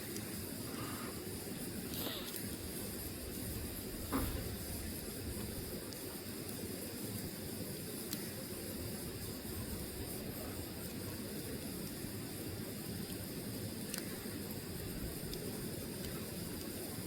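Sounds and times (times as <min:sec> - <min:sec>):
burning logs hissing and crackling: 0:00.0 - 0:17.0.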